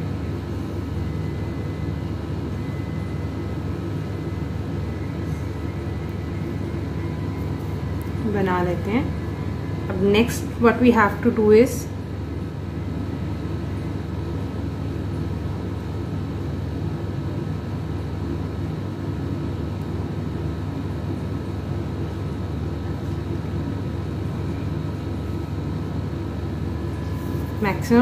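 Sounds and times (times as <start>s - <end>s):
faint high whines: 0.0s - 20.9s, 21.5s - 28.0s
low mechanical hum: 0.0s - 28.0s.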